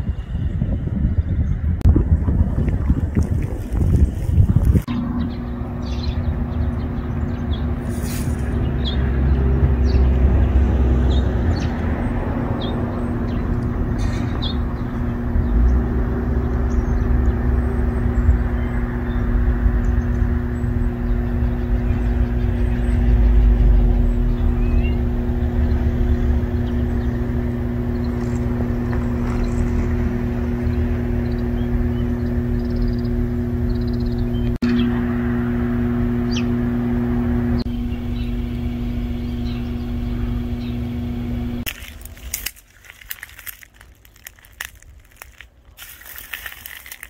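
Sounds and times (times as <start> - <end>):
low rumble: 0.0 - 47.0
steady two-tone hum: 1.6 - 47.0.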